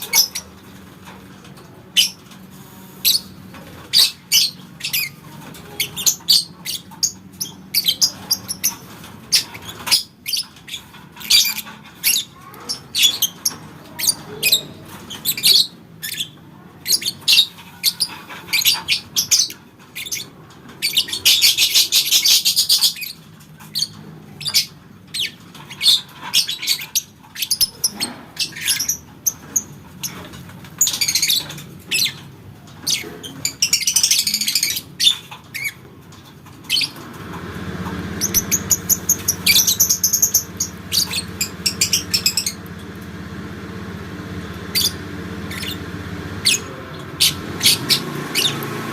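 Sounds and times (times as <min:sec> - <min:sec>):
lovebird chirping and chattering: 0:00.0 - 0:00.6, 0:01.9 - 0:32.2, 0:32.8 - 0:35.8, 0:38.2 - 0:43.1, 0:44.4 - 0:48.8.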